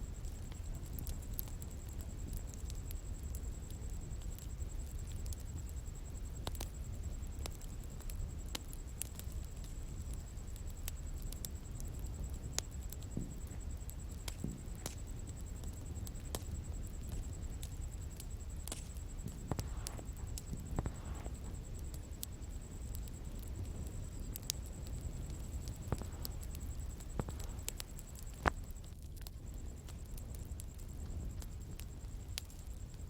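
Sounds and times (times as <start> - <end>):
burning wood crackling and popping: 0.0 - 33.0
low rumble of flames: 0.0 - 33.0.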